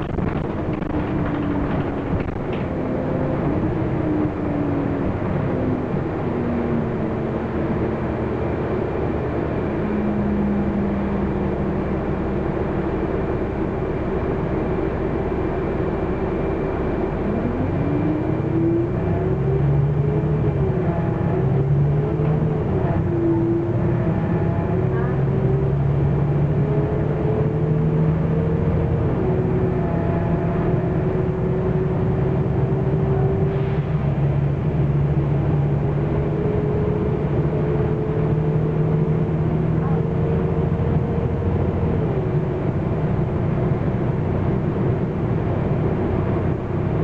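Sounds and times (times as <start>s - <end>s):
bus engine running: 0.0s - 47.0s
drivetrain whine: 0.0s - 47.0s
road and tyre noise: 0.0s - 47.0s.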